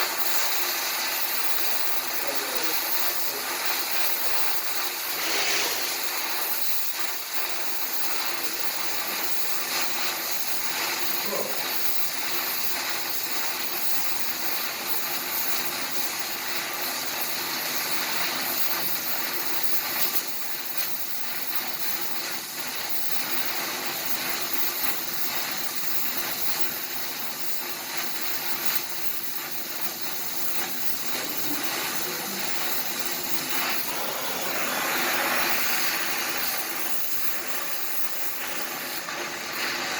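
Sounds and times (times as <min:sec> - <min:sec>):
welding hiss and crackle: 0:00.0 - 0:39.9.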